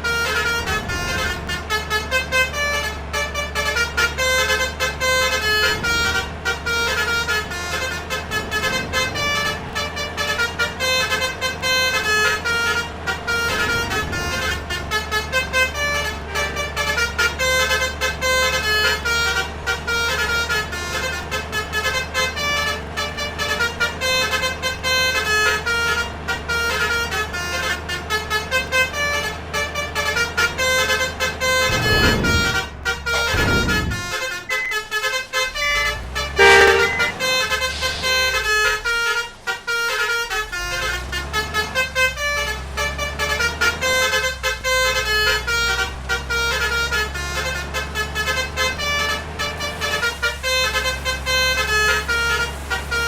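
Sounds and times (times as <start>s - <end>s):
low engine rumble: 0.0s - 53.0s
multi-tone bus horns: 0.0s - 53.0s.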